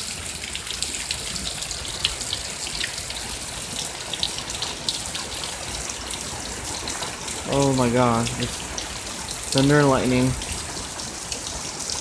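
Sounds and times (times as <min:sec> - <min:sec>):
drips and splashes: 0:00.0 - 0:12.0
heavy rain: 0:00.0 - 0:12.0.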